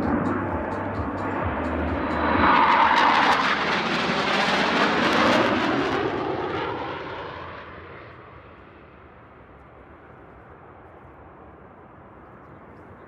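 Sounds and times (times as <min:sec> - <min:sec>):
fighter jets flying past: 0:00.0 - 0:12.7.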